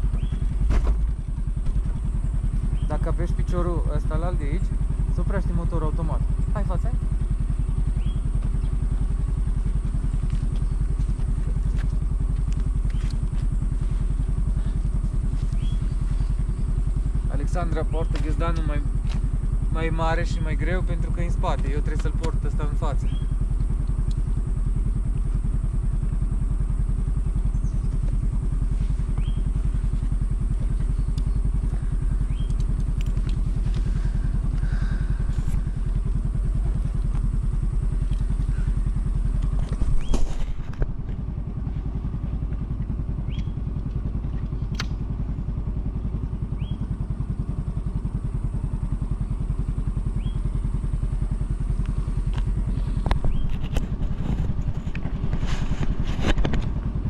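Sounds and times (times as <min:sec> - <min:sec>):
motor scooter engine rumble: 0:00.0 - 0:57.0.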